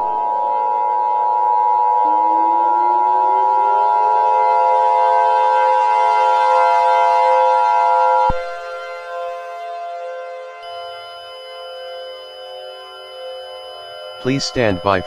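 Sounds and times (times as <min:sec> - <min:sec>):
electronic siren alarm tones: 0:00.0 - 0:15.0.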